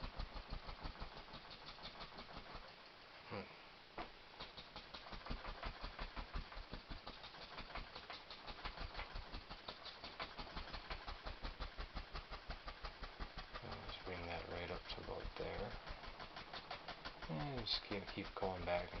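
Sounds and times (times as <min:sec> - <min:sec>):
brush scrubbing paint on canvas: 0:00.0 - 0:02.8, 0:04.4 - 0:19.0.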